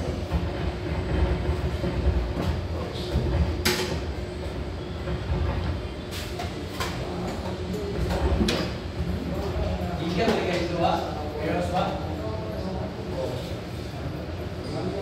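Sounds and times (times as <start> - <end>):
low room noise rumble: 0.0 - 15.0.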